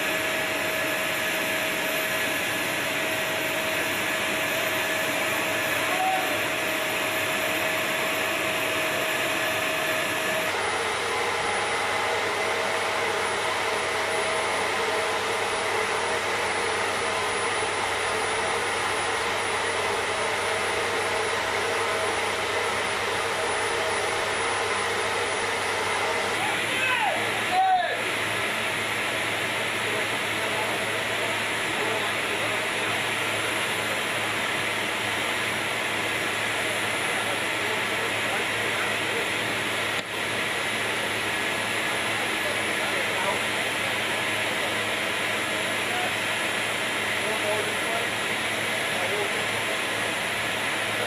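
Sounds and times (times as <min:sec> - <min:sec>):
machinery whine and rushing: 0:00.0 - 0:51.0.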